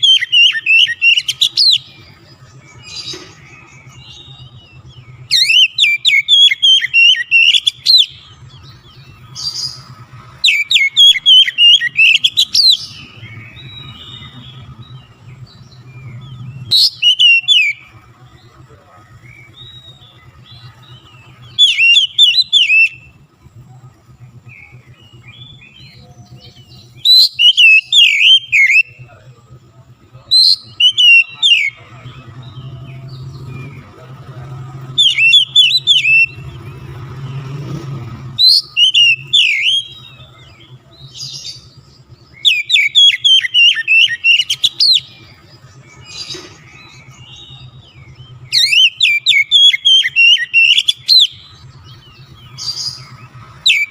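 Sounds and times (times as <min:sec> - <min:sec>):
bird singing whistles and chirps: 0:00.0 - 0:53.9
soft bird calls: 0:00.0 - 0:53.9.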